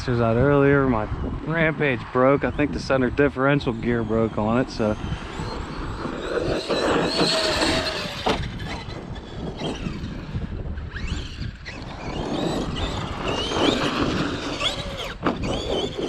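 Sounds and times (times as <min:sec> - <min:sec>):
electric motor whining: 0:01.2 - 0:16.0.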